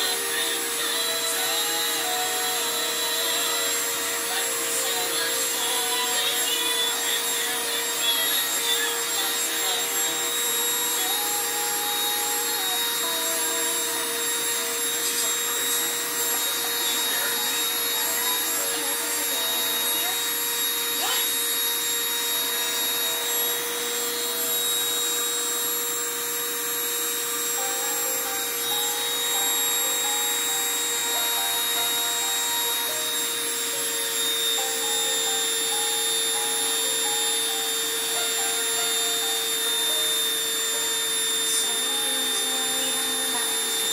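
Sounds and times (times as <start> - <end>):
rotary tool whining: 0.0 - 43.9.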